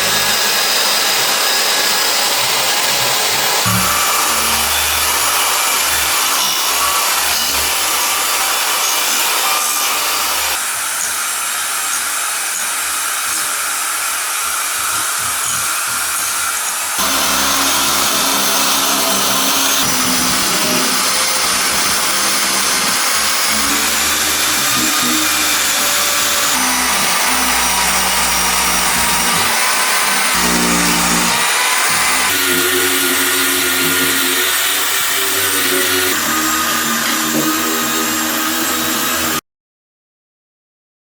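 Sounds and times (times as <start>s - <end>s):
power tools whirring: 0.0s - 39.4s.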